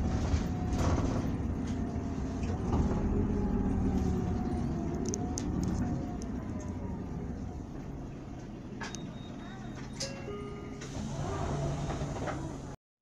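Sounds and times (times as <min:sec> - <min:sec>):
bus diesel engine drone: 0:00.0 - 0:12.8.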